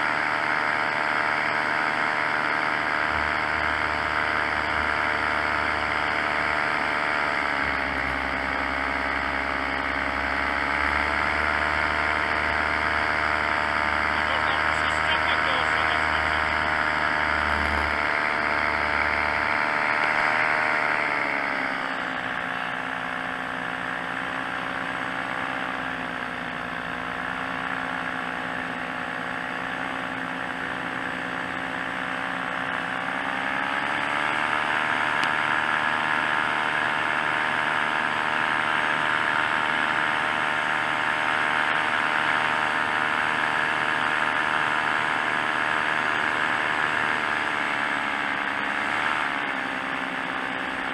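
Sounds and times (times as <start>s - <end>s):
paramotor engine and propeller: 0.0s - 50.9s.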